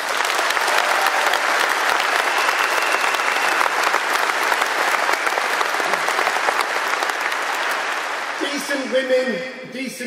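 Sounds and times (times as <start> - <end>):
large crowd applauding: 0.0 - 9.4.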